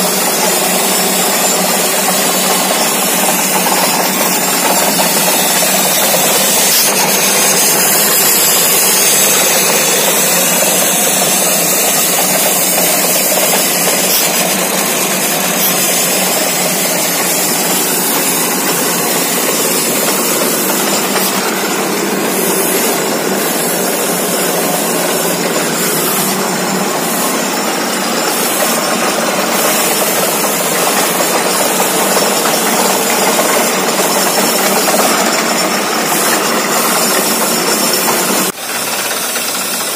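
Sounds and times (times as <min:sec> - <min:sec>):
drilling rig running: 0:00.0 - 0:39.9.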